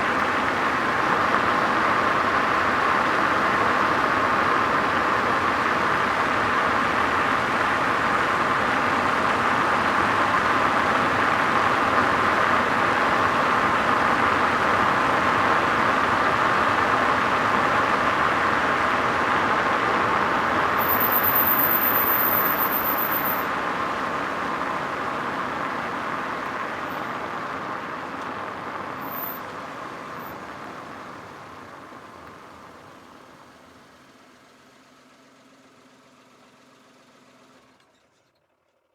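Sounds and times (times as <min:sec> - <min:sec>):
car engine running: 0:00.0 - 0:37.8.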